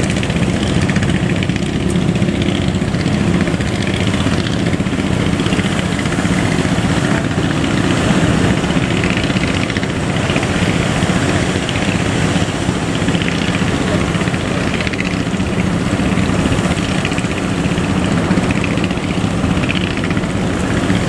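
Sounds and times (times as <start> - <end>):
boat engine rumbling: 0.0 - 21.0.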